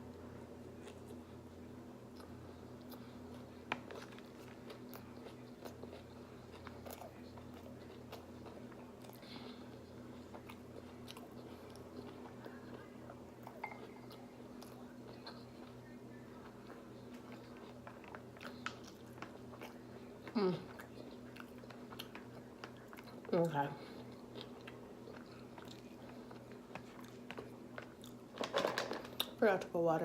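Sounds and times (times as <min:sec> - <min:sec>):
steady low hum: 0:00.0 - 0:30.0
person chewing food: 0:00.5 - 0:29.4.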